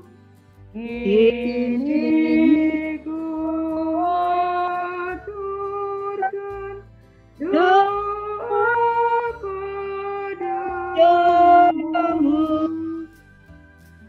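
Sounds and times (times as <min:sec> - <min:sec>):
woman singing a hymn: 0:00.8 - 0:06.8, 0:07.4 - 0:13.1.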